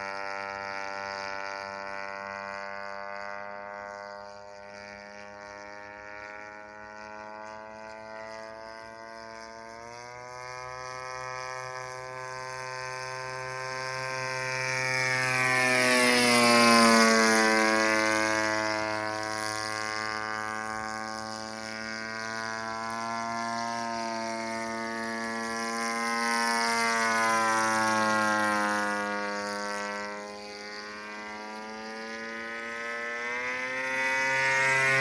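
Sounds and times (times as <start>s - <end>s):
small aircraft droning overhead: 0.0s - 35.0s.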